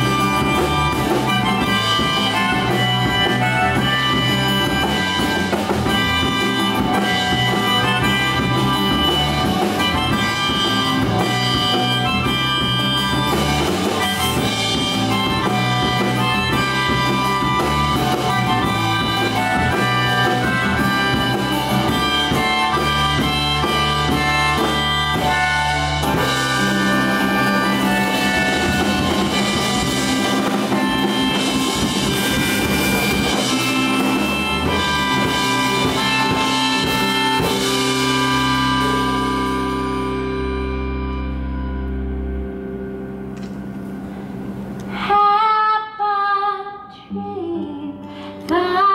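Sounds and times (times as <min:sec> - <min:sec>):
bass guitar: 0:00.0 - 0:45.6
guitar: 0:00.0 - 0:48.9
held lead melody line: 0:00.0 - 0:48.9
keyboard: 0:00.0 - 0:48.9.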